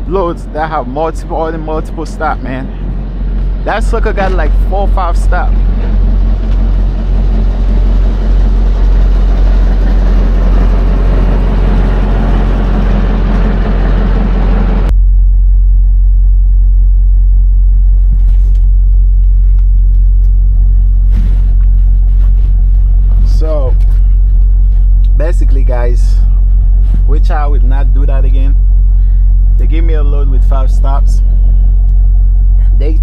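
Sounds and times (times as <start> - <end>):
road and air noise: 0.0 - 15.0, 16.8 - 33.0
truck engine rumbling: 0.0 - 33.0.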